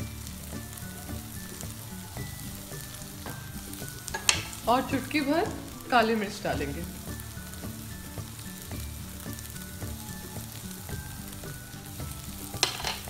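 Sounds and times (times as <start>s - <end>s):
soft background music: 0.0s - 13.0s
vegetables sizzling in a frying pan: 0.0s - 13.0s.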